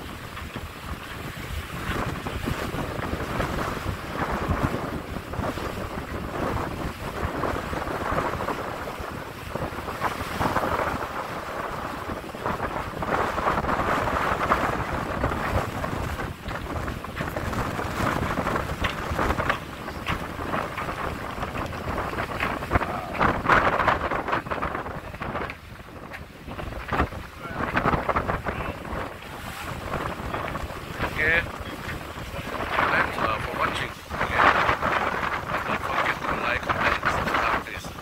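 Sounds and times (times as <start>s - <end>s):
water splashing along hulls: 0.0s - 38.0s
wind buffeting microphone: 0.0s - 38.0s.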